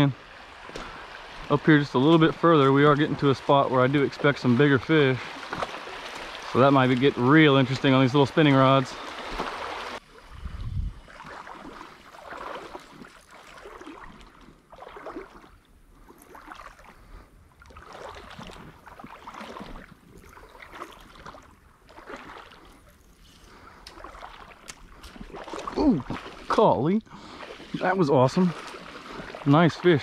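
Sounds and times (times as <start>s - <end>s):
creek water splashing: 0.0s - 30.0s.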